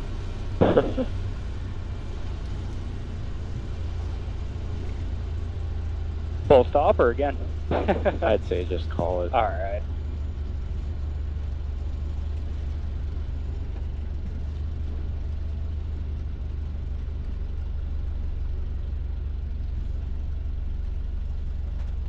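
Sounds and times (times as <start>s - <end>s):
plane engine drone in cabin: 0.0s - 22.0s.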